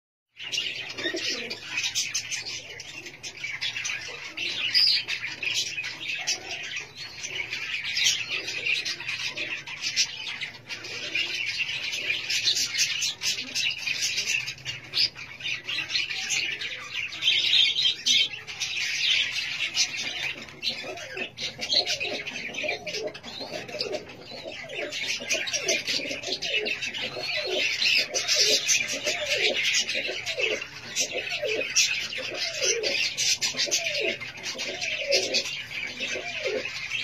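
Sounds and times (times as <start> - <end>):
birds chirping and chattering: 0.4 - 37.0
low bird calls: 0.4 - 37.0.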